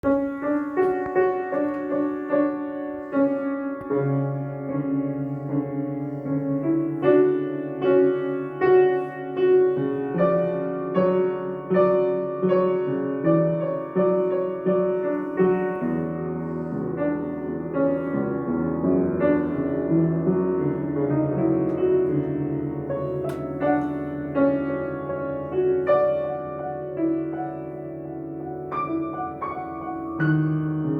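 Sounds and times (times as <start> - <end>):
slow solo piano: 0.0 - 30.9.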